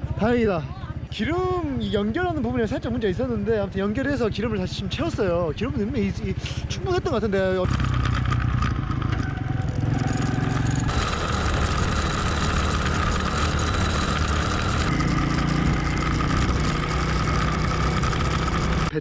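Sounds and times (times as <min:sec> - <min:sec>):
motorcycle engine running: 0:00.0 - 0:19.0
road and wind noise: 0:02.7 - 0:19.0.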